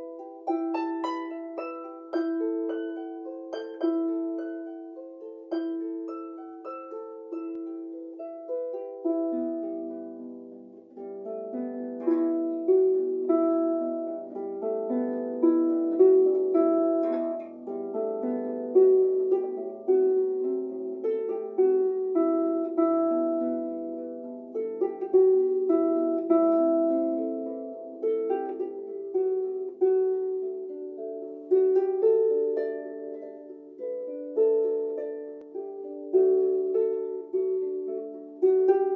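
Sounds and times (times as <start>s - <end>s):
plucked harp-like string melody: 0.0s - 38.9s.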